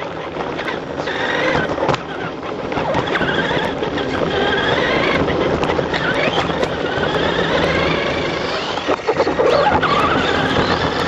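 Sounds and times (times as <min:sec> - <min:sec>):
electric motor whining: 0:00.0 - 0:11.0
toy truck rattling on dirt: 0:00.0 - 0:11.0.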